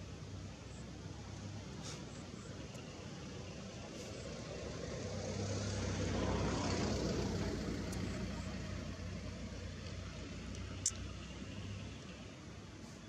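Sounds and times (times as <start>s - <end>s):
vehicle engine passing: 1.4s - 12.1s.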